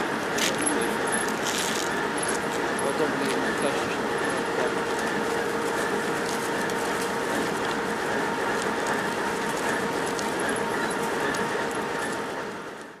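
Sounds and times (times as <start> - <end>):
diesel locomotive engines running: 0.0 - 13.0.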